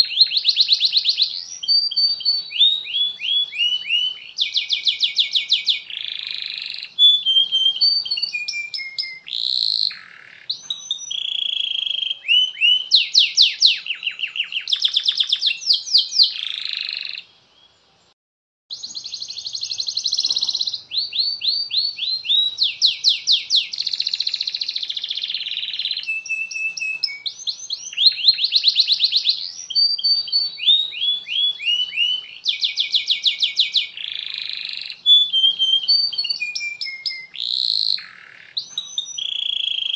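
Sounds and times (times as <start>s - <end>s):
canary singing trills: 0.0s - 17.8s, 18.7s - 39.9s.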